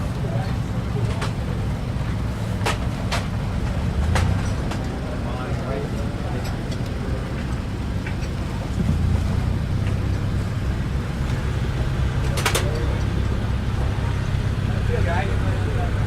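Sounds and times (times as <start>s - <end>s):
sports car engine running: 0.0s - 16.0s.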